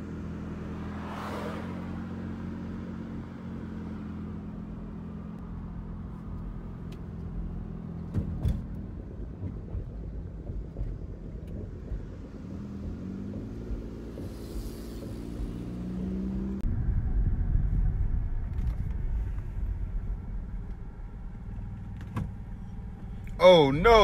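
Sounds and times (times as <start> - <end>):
car engine and road drone: 0.0 - 24.0.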